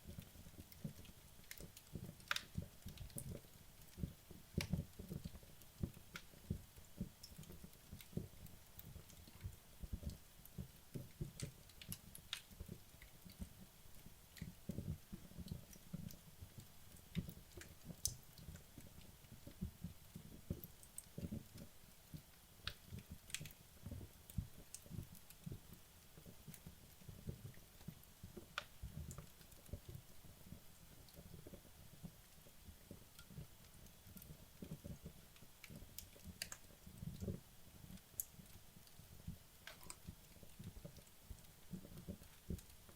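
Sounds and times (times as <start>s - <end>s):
fireplace flames fluttering: 0.0s - 42.9s
logs popping and crackling: 0.0s - 42.9s.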